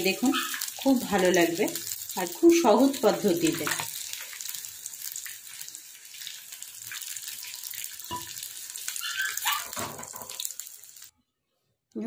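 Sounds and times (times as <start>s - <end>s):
food sizzling in hot oil: 0.0s - 11.1s.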